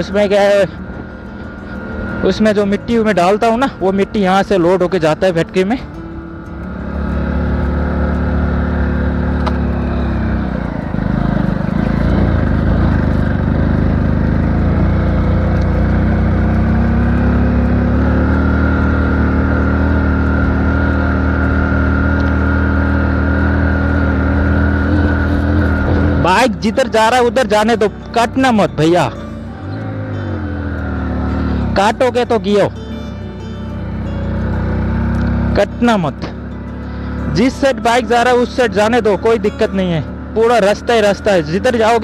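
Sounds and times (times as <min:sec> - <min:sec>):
motorcycle engine under load: 0:00.0 - 0:42.0.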